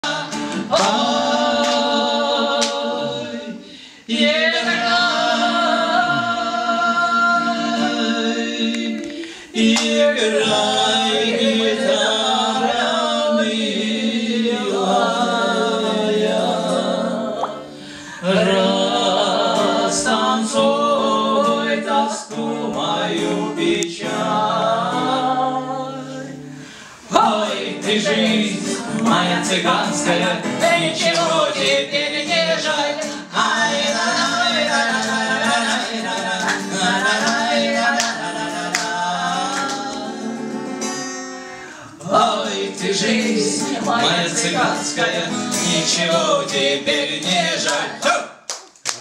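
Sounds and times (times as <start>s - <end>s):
voices singing slow romance: 0.0s - 48.4s.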